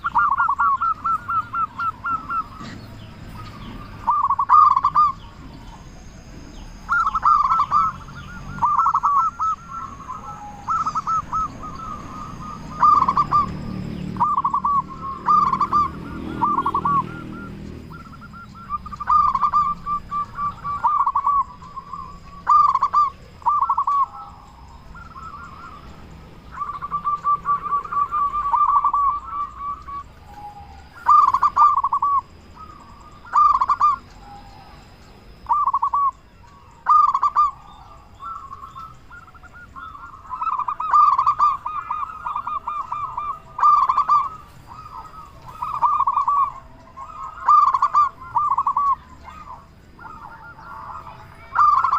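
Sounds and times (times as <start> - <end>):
dove rolling coos: 0.0 - 51.9.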